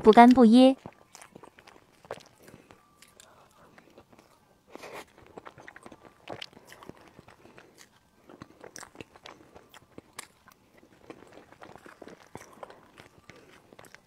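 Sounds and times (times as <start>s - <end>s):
wet chewing and lip smacks: 0.1s - 14.0s.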